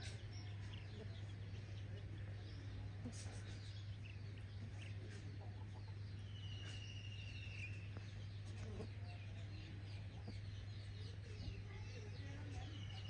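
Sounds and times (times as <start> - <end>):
chickens clucking: 0.0 - 11.8
high chirps and peeps: 0.0 - 13.0
steady low hum: 0.0 - 13.0.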